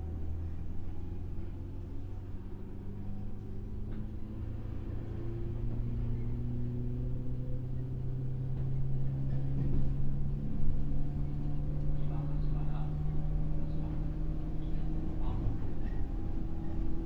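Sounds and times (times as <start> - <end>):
wheels rumbling on track: 0.0 - 17.0.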